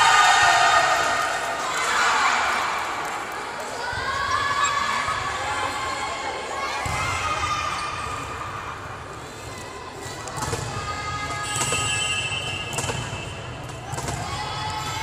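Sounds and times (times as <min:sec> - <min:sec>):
voices echoing in sports hall: 0:00.0 - 0:15.0.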